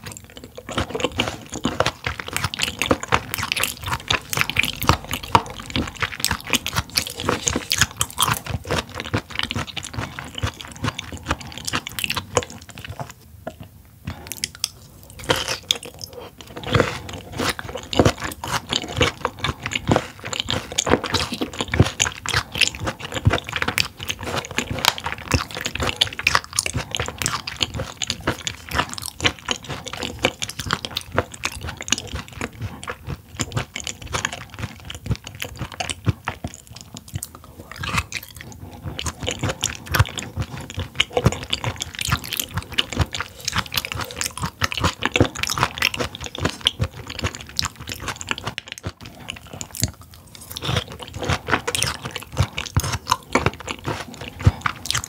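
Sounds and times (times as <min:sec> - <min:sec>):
close chewing clicks: 0:00.0 - 0:55.0.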